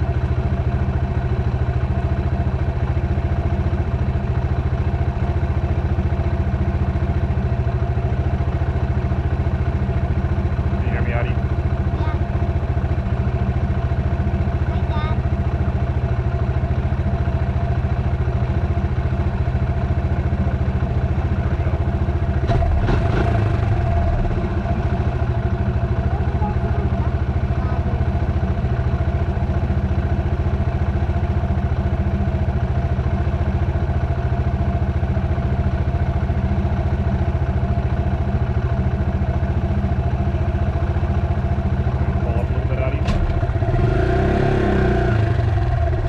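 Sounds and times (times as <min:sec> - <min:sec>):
dirt bike engine running: 0:00.0 - 0:46.0.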